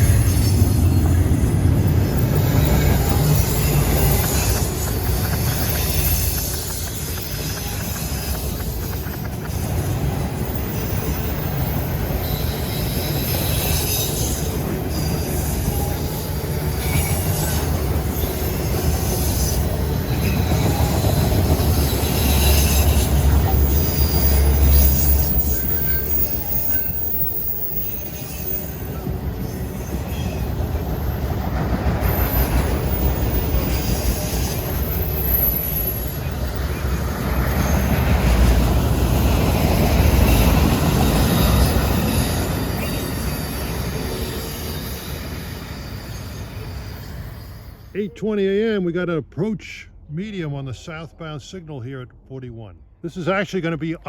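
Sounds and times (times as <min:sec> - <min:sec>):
clatter at rail joints: 0:00.0 - 0:47.7
steel wheels squealing: 0:00.0 - 0:48.2
freight train rumbling past: 0:00.0 - 0:48.9.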